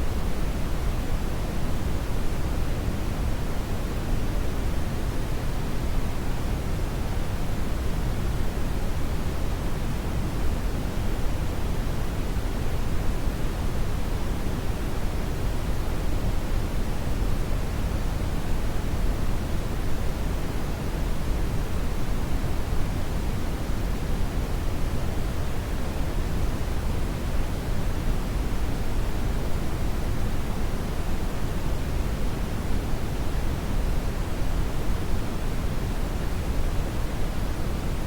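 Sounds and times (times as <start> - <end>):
brown noise hiss: 0.0 - 38.0.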